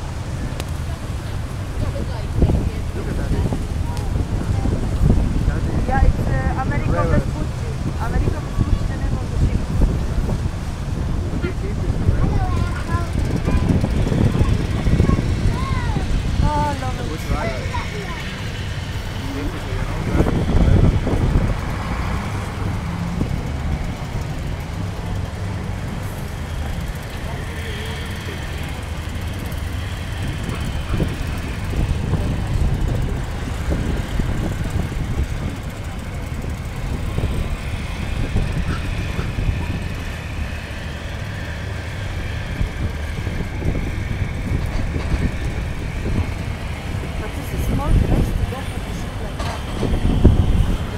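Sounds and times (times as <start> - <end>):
low engine rumble: 0.0 - 50.9
outdoor hum: 0.0 - 50.9.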